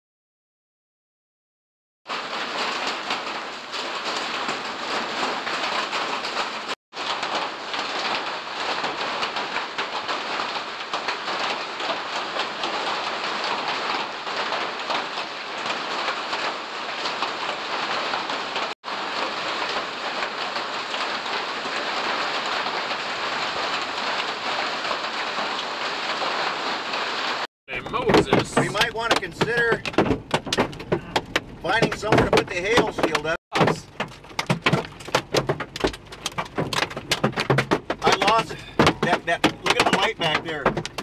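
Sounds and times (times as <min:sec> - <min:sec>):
hailstones clattering: 0:02.1 - 0:41.0.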